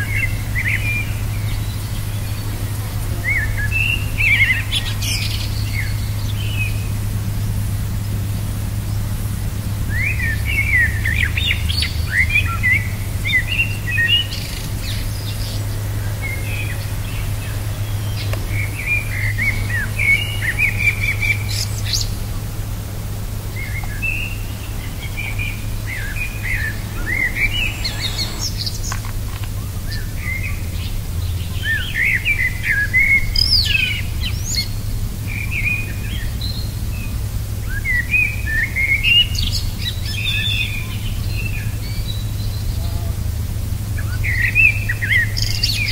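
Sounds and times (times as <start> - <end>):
birds chirping and trilling: 0.0 - 7.0, 9.8 - 43.3, 43.9 - 45.9
steady low hum: 0.0 - 40.1.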